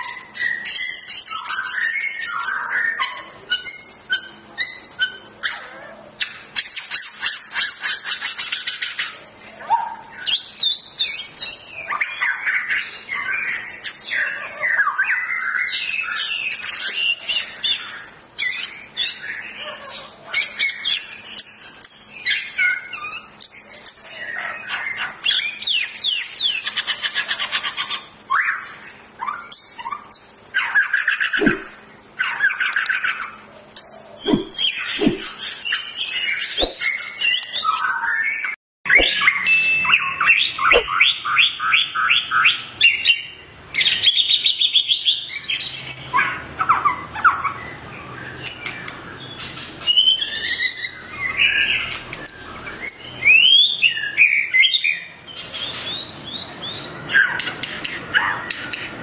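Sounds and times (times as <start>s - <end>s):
songbird whistles and trills: 0.0s - 49.0s, 49.8s - 58.9s.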